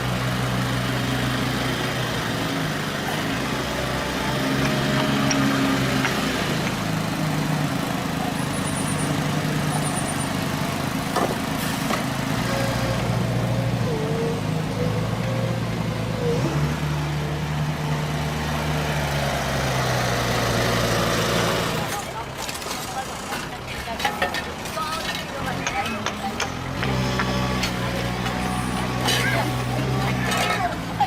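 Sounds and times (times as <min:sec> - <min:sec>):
heavy machine engine running: 0:00.0 - 0:31.0.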